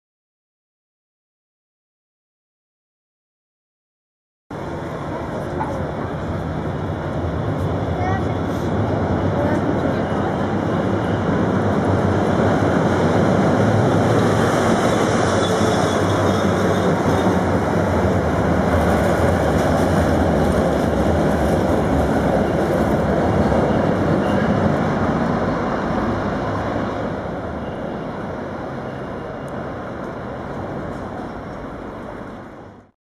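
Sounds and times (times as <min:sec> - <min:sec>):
tram wheels on rails: 0:04.5 - 0:32.9.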